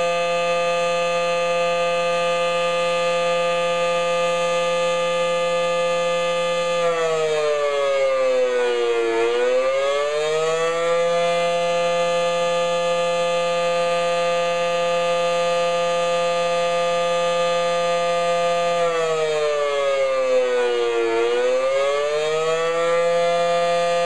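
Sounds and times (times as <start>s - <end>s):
outdoor warning siren: 0.0s - 24.0s.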